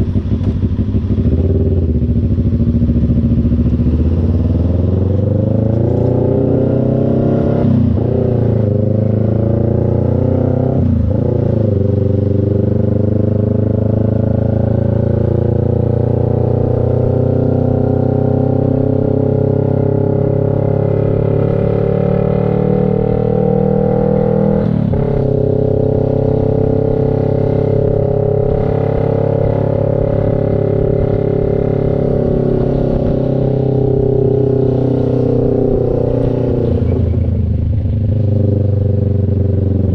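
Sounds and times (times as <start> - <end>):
motorcycle engine running: 0.0 - 6.6, 7.8 - 39.9.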